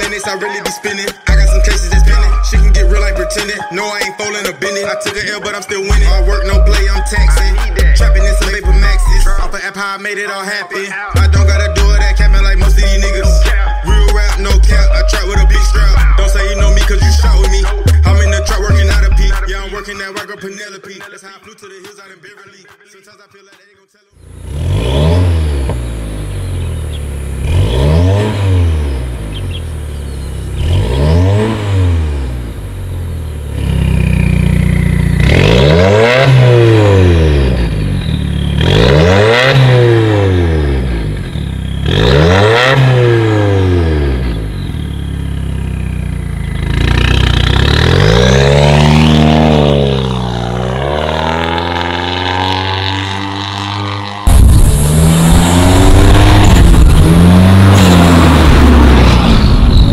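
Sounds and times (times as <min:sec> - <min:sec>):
car engine revving: 0:01.0 - 0:03.6, 0:05.2 - 0:09.6, 0:11.2 - 0:20.1, 0:24.2 - 0:59.9.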